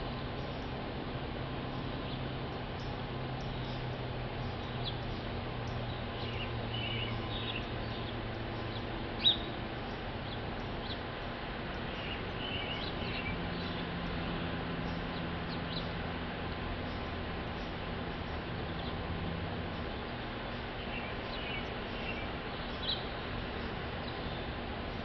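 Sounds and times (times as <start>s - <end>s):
small birds chirping: 0.0s - 0.8s, 1.6s - 19.1s, 19.7s - 25.0s
outdoor hiss and hum: 0.0s - 25.0s.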